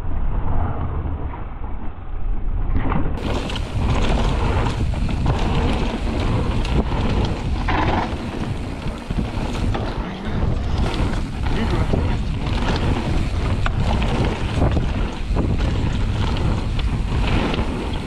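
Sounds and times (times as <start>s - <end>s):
wind buffeting microphone: 2.4s - 18.0s
bike clattering over bumps: 3.2s - 18.0s
bike tyres rolling on dirt: 3.2s - 18.0s.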